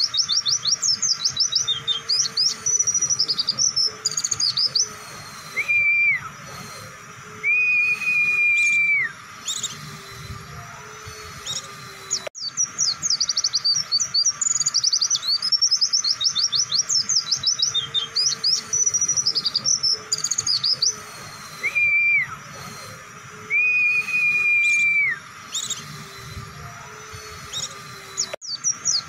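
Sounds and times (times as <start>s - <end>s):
bird twittering chirps: 0.0s - 29.0s
bird whistles: 0.0s - 29.0s.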